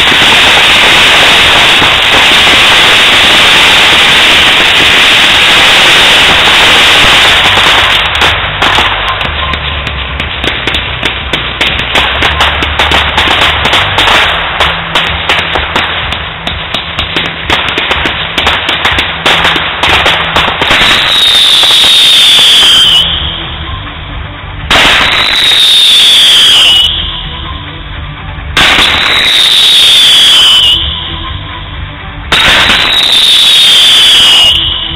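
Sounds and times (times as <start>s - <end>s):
falling firework whistle: 0.0s - 23.7s, 24.7s - 27.7s, 28.6s - 34.9s
fireworks crackling and popping: 0.0s - 34.9s.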